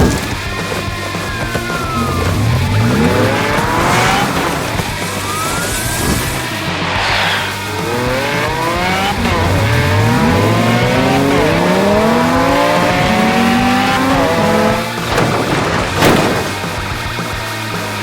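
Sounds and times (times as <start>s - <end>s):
cartoon engines revving: 0.0s - 17.1s.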